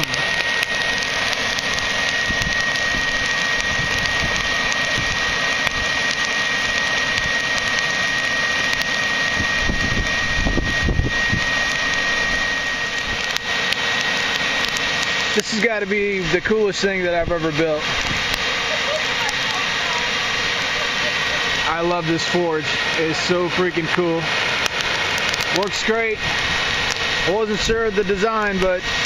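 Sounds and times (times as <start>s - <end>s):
charcoal crackling: 0.0s - 29.0s
hair dryer blowing air: 0.0s - 29.0s
low rumble: 0.0s - 29.0s.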